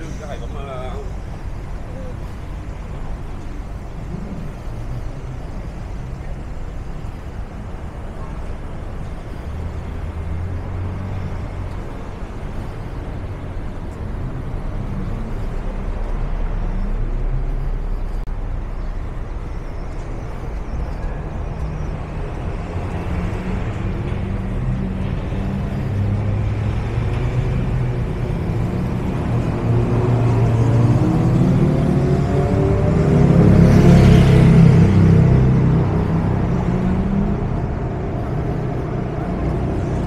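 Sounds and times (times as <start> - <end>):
low engine rumble: 0.0 - 40.0
vehicles passing: 0.0 - 40.0.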